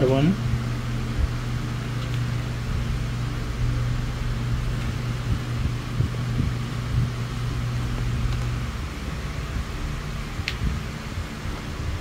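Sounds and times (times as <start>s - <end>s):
room fan humming: 0.0s - 12.0s.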